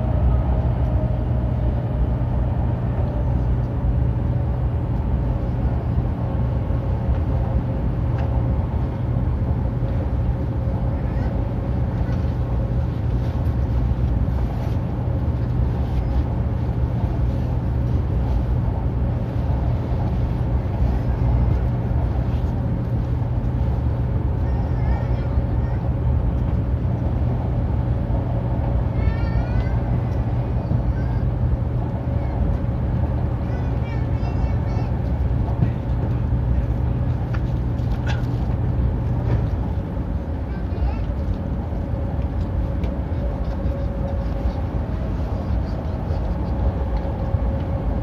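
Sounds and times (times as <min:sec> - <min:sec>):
train running noise: 0:00.0 - 0:48.0.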